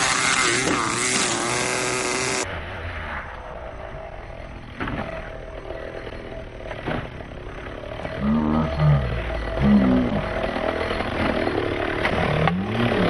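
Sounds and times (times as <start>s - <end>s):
nitro engine running and revving: 0.0s - 13.0s.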